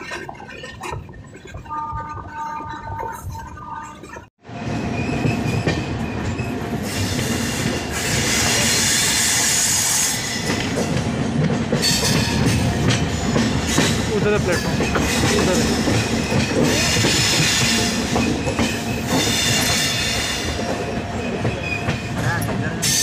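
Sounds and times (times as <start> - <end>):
train wheels clattering on track: 0.0 - 23.0.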